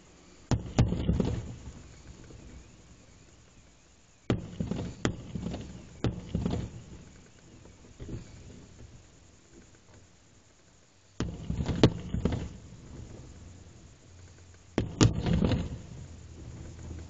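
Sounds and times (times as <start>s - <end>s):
firework shells bursting: 0.2s - 3.6s, 4.2s - 10.1s, 11.2s - 17.0s.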